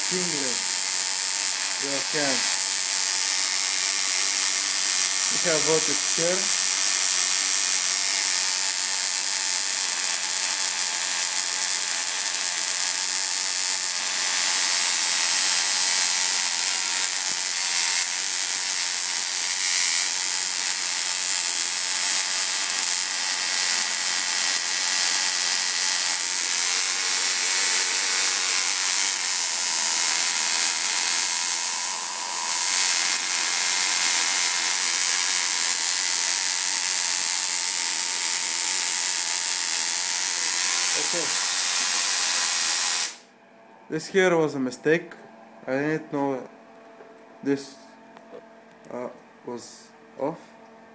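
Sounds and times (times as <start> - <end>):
tesla coil buzzing: 0.0 - 43.3.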